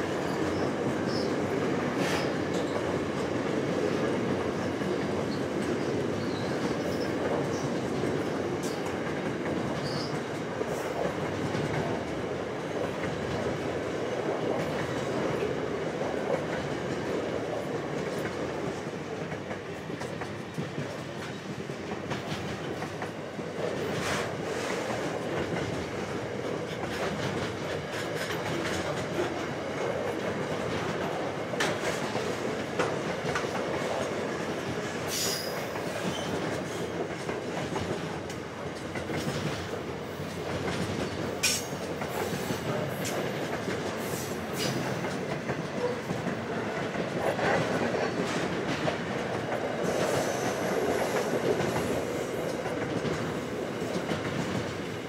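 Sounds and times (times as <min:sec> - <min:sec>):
train wheels clicking over rails: 0:00.0 - 0:55.0.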